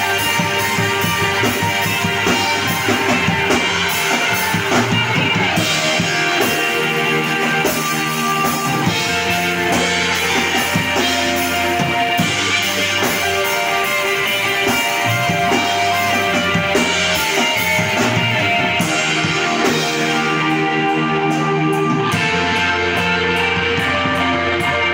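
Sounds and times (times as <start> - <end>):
screamo band playing: 0.0 - 24.9.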